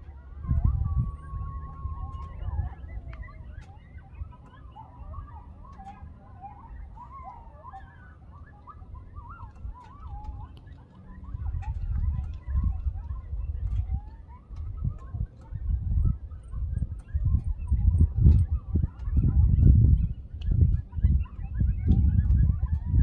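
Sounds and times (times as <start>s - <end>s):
coyotes howling and yipping: 0.0s - 23.0s
low microphone rumble: 0.0s - 23.0s.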